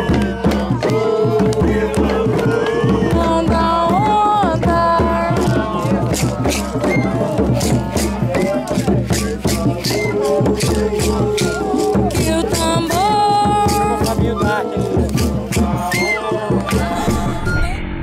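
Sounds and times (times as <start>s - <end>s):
hand percussion music: 0.0s - 17.8s.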